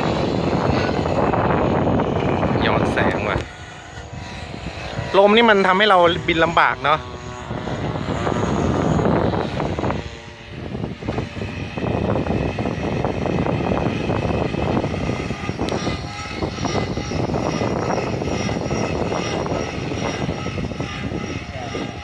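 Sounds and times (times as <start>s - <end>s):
helicopter motor whine: 0.0s - 22.0s
wind buffeting microphone: 0.0s - 22.0s.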